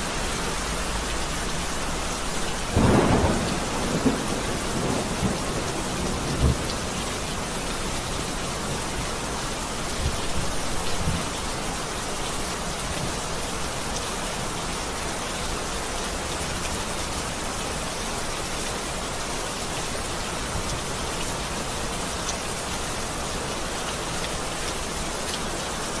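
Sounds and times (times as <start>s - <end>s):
rain pattering on a surface: 0.0s - 26.0s.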